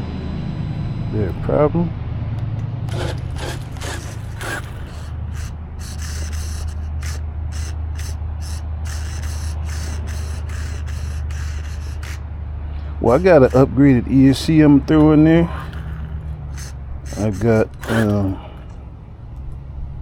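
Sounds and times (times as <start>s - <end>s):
steady low hum: 0.0s - 20.0s
toy truck drivetrain clicking: 2.6s - 20.0s.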